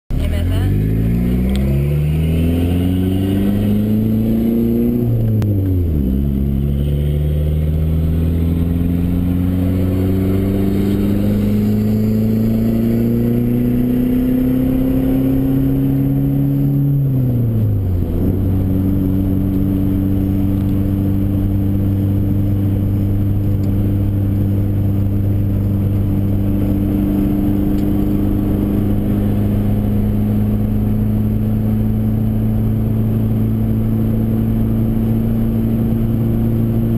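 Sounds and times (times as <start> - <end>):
car engine accelerating: 0.1 - 36.9.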